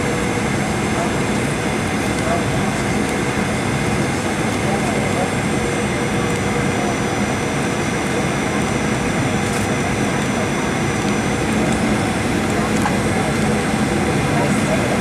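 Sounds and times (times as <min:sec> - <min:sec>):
airliner cabin roar: 0:00.0 - 0:15.0.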